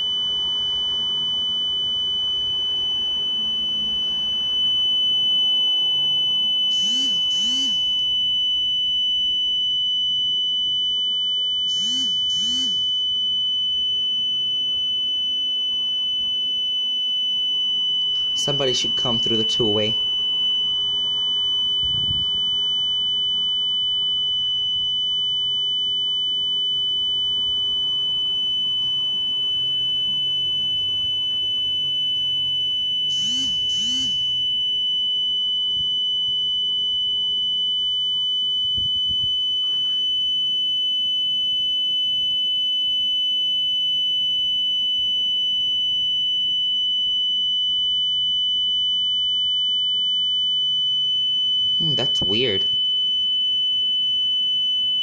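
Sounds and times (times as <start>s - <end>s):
alarm panel high-pitched tone: 0.0s - 55.0s.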